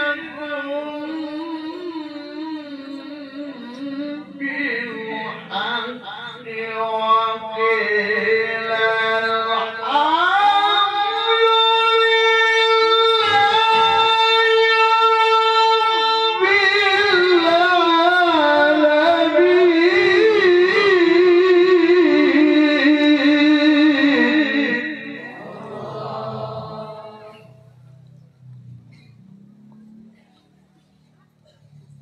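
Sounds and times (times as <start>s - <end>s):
man reciting in melismatic chant: 0.0s - 27.8s.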